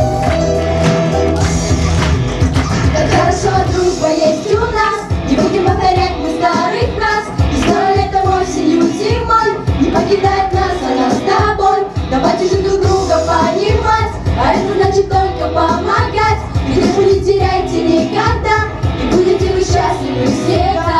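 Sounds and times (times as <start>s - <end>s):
instrumental backing with beat: 0.0s - 20.9s
child singing: 3.0s - 20.9s.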